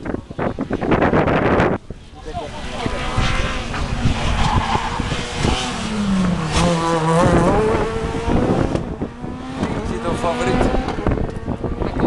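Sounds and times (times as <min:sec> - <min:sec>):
rally car engine revving: 0:00.4 - 0:12.0.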